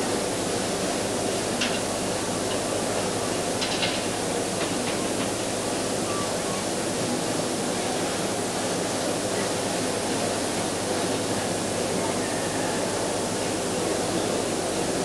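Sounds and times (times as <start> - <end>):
indoor crowd murmur: 0.0 - 15.0.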